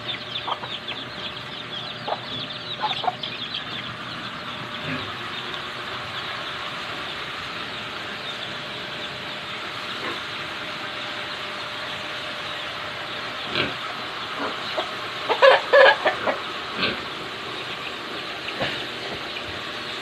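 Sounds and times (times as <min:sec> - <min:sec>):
farm animal calls: 0:00.0 - 0:20.0.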